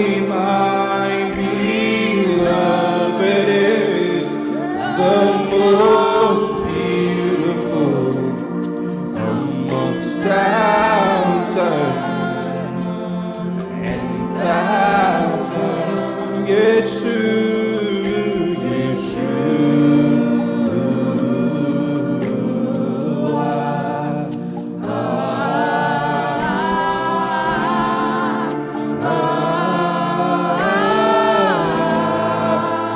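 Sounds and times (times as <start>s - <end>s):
group singing worship music: 0.0s - 32.9s
sustained chords: 0.0s - 32.9s.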